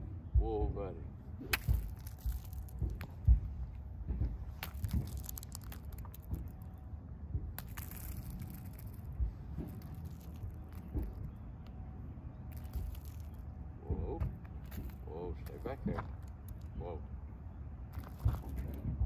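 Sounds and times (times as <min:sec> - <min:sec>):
low outdoor rumble: 0:00.0 - 0:19.0
hooves and boots on gravel: 0:01.4 - 0:06.8, 0:07.4 - 0:11.8, 0:12.4 - 0:17.0, 0:17.9 - 0:19.0
thumps: 0:01.4 - 0:16.8
crackling rustles: 0:01.4 - 0:17.1, 0:17.7 - 0:19.0.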